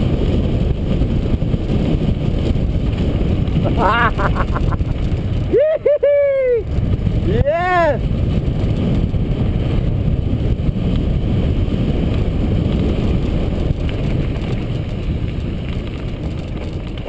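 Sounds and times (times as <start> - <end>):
bike tyre noise: 0.0 - 17.0
wind rumble on microphone: 0.0 - 17.0.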